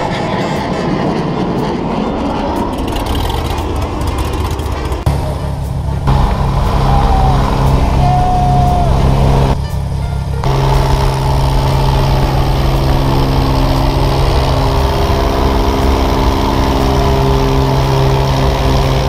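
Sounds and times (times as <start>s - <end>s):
propeller plane engine drone: 0.0s - 19.0s
rushing air: 0.0s - 19.0s.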